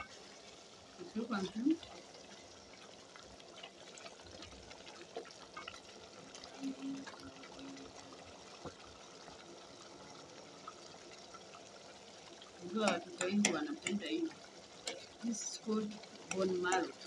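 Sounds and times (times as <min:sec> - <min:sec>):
stew bubbling: 0:00.0 - 0:17.0.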